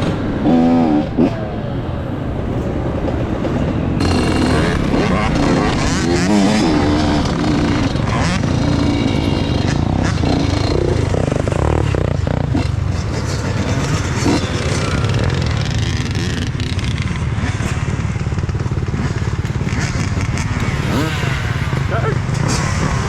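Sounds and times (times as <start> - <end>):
dirt bike engine running: 3.2 - 23.0.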